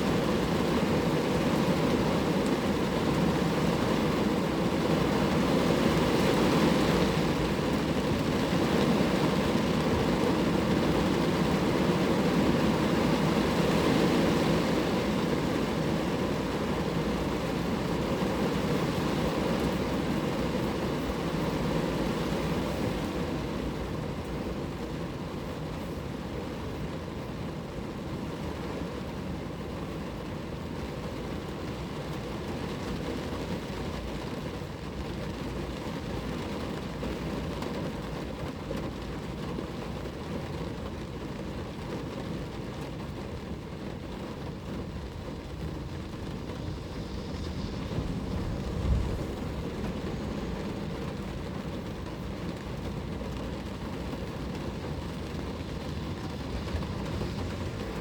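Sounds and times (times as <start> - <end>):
rain falling on a car: 0.0 - 58.0.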